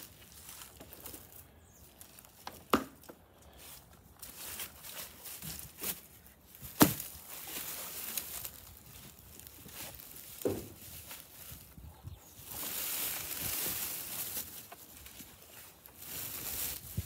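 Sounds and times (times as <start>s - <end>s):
handling rustle: 0.0s - 17.0s.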